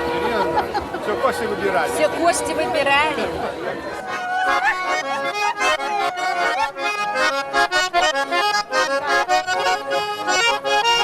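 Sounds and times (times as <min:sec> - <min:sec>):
button accordion folk dance tune: 0:00.0 - 0:11.0.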